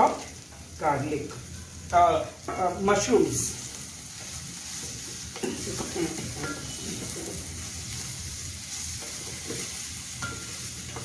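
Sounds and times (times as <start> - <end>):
mushrooms sizzling in oil: 0.0 - 11.0.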